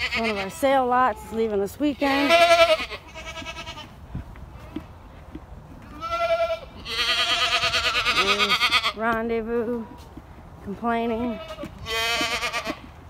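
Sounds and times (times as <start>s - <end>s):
goats bleating: 0.0s - 4.9s, 5.8s - 10.1s, 10.8s - 12.9s.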